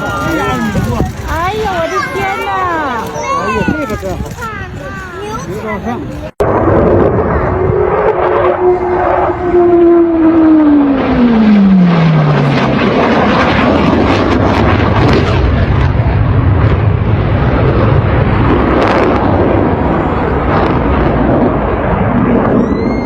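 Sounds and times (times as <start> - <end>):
crackling jet rumble: 0.0 - 23.0
jet aircraft flying low: 0.0 - 23.0.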